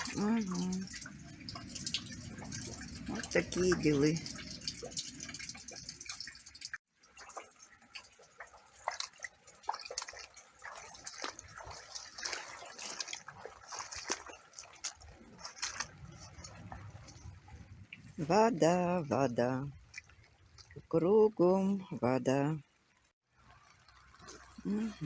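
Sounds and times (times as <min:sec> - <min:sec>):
rainwater dripping: 0:00.0 - 0:25.0.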